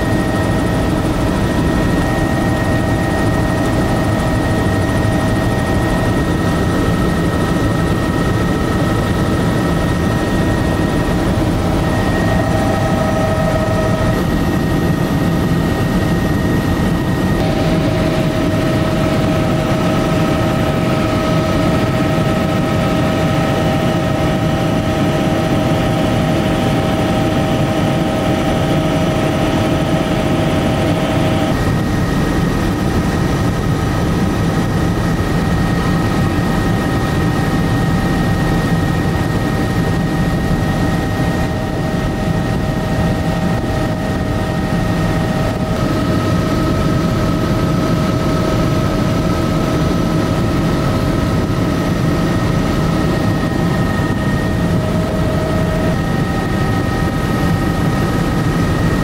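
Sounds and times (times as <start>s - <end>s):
high whine: 0.0s - 33.6s, 38.6s - 59.0s
helicopter rotor and engine drone: 0.0s - 59.0s.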